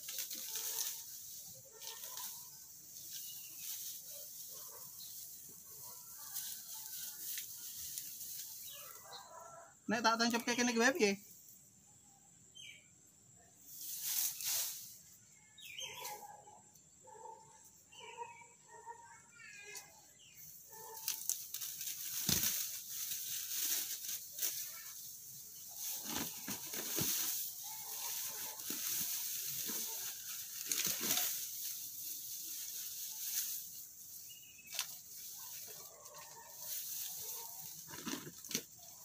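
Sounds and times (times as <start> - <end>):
rustling and scraping of handling: 0.0 - 9.7, 13.6 - 16.4, 19.7 - 39.0.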